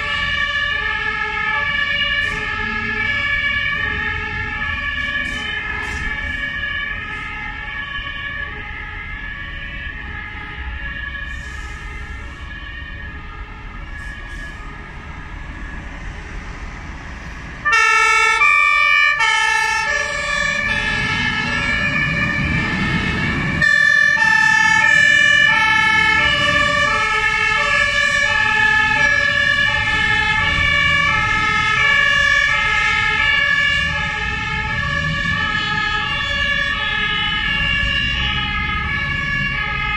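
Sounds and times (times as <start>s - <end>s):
two-tone siren: 0.0s - 16.1s, 17.6s - 39.9s
fire engine diesel engine: 0.0s - 39.9s.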